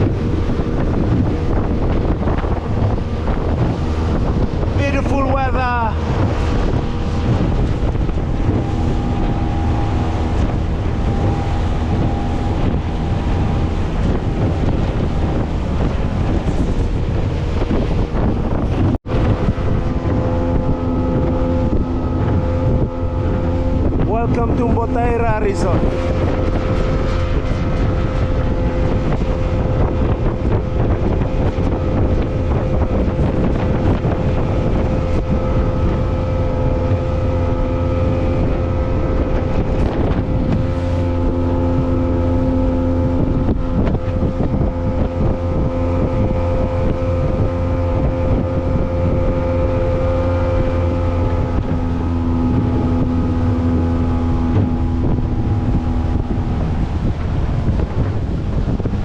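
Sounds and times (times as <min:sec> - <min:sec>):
motorboat engine running: 0:00.0 - 0:59.0
wind buffeting microphone: 0:00.0 - 0:59.0.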